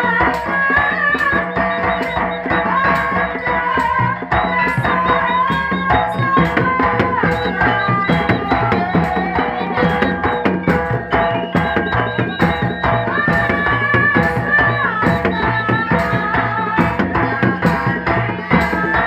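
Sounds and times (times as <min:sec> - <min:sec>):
hand drums playing: 0:00.0 - 0:19.0
sliding melody line: 0:00.0 - 0:19.0.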